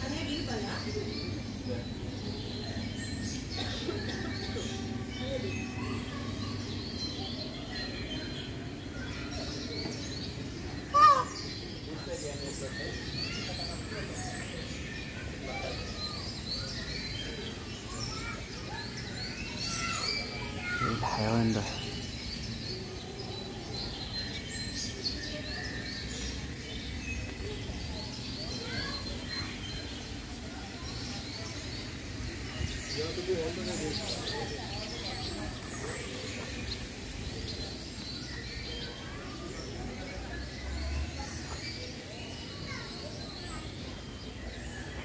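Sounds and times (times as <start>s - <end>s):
birds chirping and calling: 0.0s - 45.0s
low outdoor background noise: 0.0s - 45.0s.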